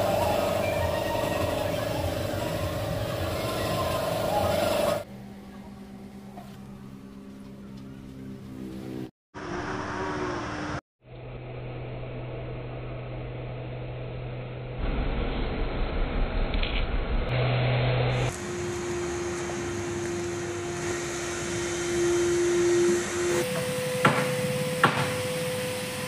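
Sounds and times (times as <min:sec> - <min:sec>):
high-pitched whine with hiss: 0:00.0 - 0:05.2, 0:09.4 - 0:26.0
machine hum: 0:00.0 - 0:24.8.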